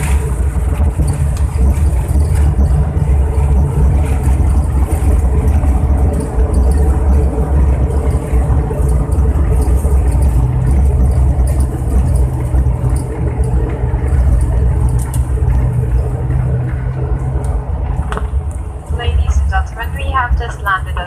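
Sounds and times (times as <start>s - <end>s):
airliner engine drone: 0.0s - 21.0s
wheels rumbling on runway: 0.0s - 21.0s.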